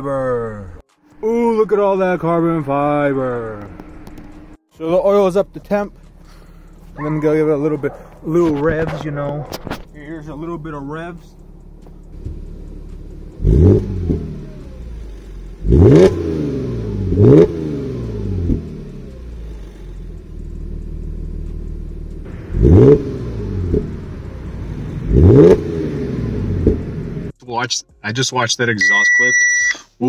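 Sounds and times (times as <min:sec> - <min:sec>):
car engine idling and revving: 0:01.7 - 0:27.4.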